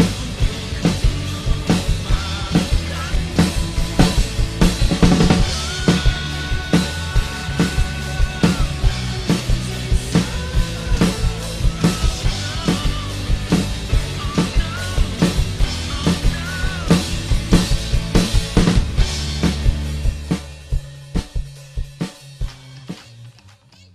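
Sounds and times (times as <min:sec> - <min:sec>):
backing track with bass and melody: 0:00.0 - 0:23.5
drum kit rock beat: 0:00.0 - 0:23.8.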